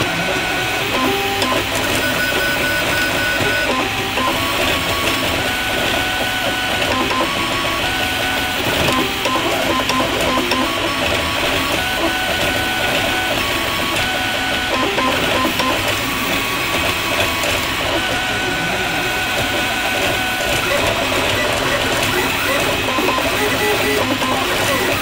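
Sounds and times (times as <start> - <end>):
printer stepper motors whining: 0.0 - 25.0.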